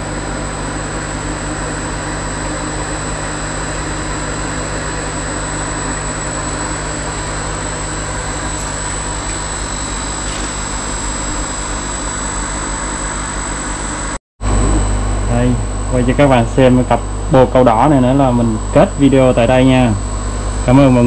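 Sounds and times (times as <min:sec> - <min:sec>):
air pump motors humming: 0:00.0 - 0:21.0
thin high whine: 0:00.0 - 0:21.0.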